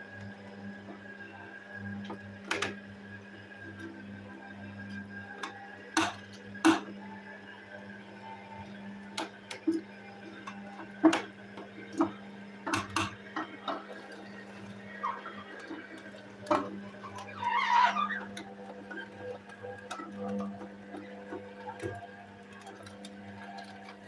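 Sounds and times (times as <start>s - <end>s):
juicer motor humming: 0.0s - 24.0s.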